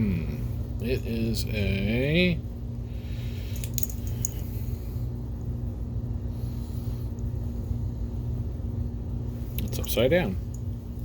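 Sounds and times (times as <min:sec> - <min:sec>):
low room hum and rumble: 0:00.0 - 0:11.0.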